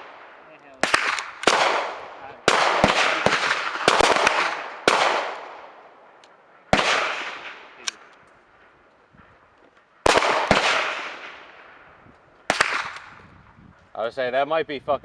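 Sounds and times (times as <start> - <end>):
gunshots echoing: 0.0 - 8.8, 9.9 - 13.2.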